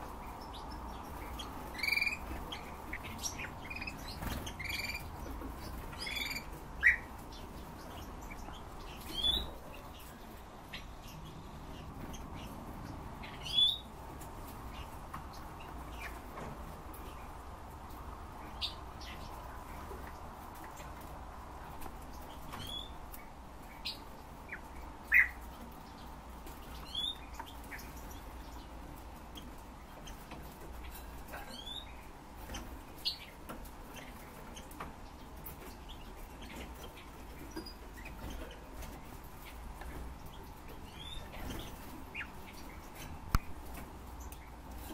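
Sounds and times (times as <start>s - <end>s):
cage birds chirping: 0.0s - 44.9s.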